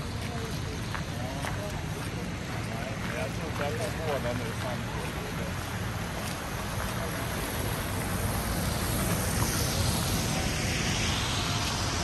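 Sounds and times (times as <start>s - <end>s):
faint voices: 0.0s - 12.0s
traffic: 0.0s - 12.0s.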